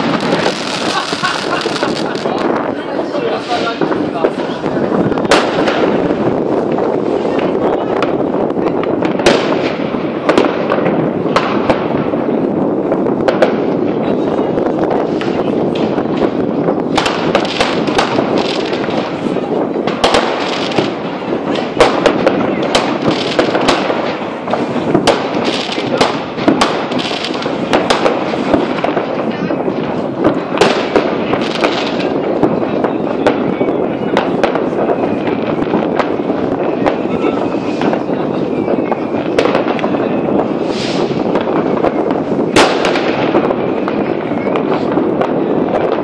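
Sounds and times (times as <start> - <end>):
firecracker bangs: 0.0 - 46.0
fireworks crackling: 0.0 - 46.0.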